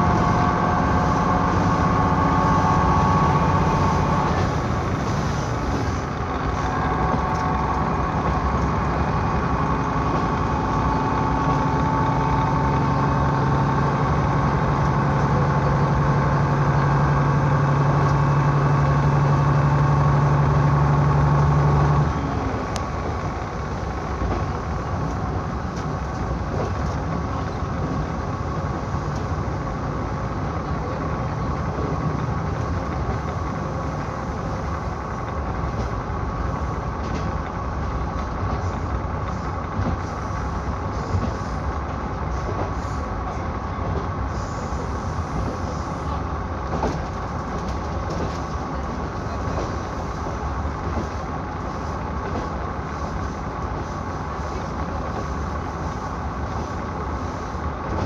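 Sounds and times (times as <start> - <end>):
railcar rumbling on rails: 0.0 - 58.0.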